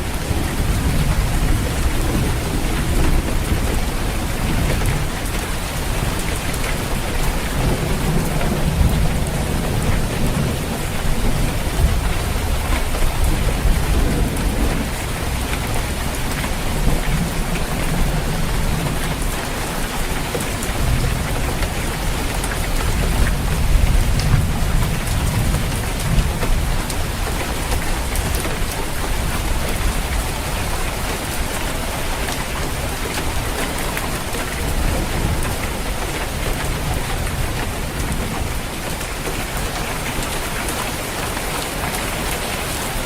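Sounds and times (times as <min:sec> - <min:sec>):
low rolling thunder: 0:00.0 - 0:40.5
rain pattering on a roof: 0:00.0 - 0:43.0.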